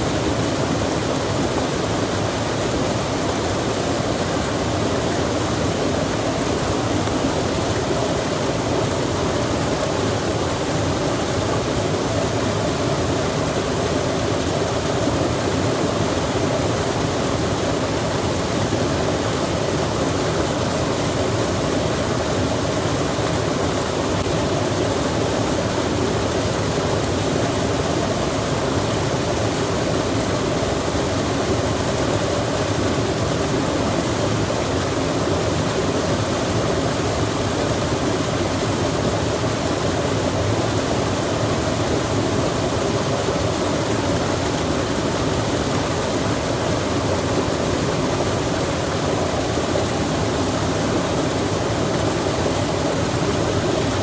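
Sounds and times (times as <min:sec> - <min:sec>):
forest ambience rushing noise: 0:00.0 - 0:54.0.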